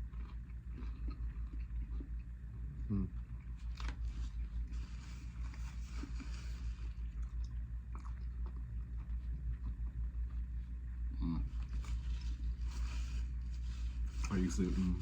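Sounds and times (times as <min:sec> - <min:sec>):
crunchy chewing: 0:00.0 - 0:15.0
steady low hum: 0:00.0 - 0:15.0.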